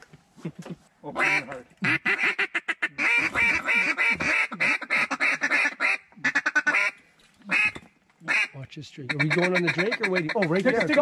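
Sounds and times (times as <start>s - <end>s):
duck call clucks: 1.2s - 11.0s
duck call quacks: 1.2s - 11.0s.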